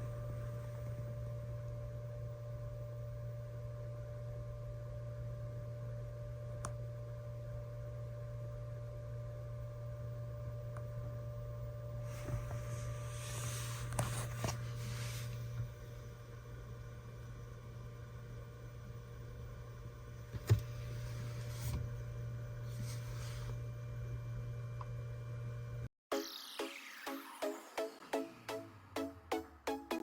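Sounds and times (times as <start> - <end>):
electrical hum with high whine: 0.0 - 25.9.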